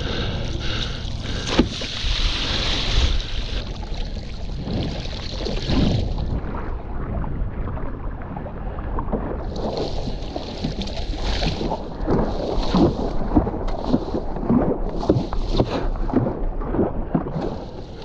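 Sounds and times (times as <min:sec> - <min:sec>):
water splashing from paddle strokes: 0:00.0 - 0:07.1, 0:09.0 - 0:18.0
wind rumbling on microphone: 0:00.0 - 0:18.0.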